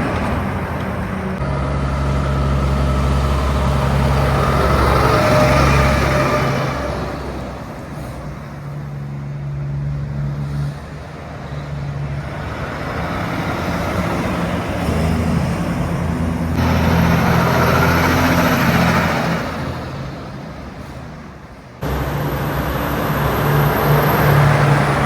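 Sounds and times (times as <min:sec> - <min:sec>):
highway traffic passing: 0:00.0 - 0:25.0.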